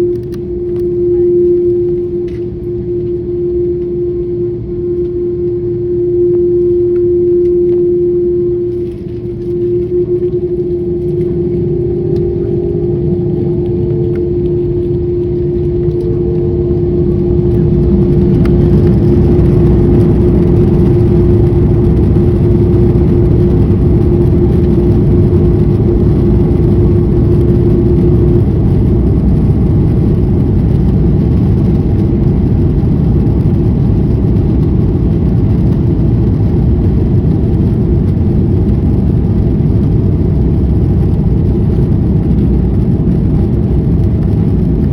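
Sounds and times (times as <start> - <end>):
jet engines roaring: 0.0 - 44.9
steady hum: 0.0 - 44.9.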